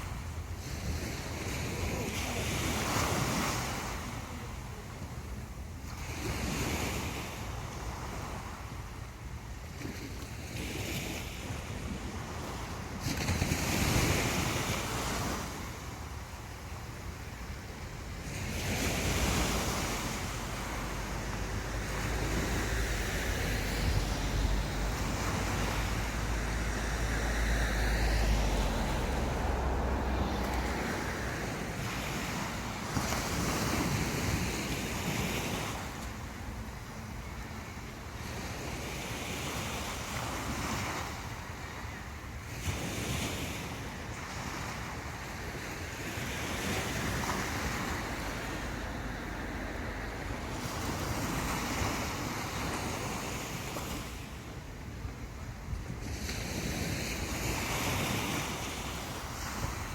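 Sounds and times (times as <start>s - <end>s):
surf washing up a beach: 0.0s - 59.9s
wind rumble on microphone: 0.0s - 59.9s.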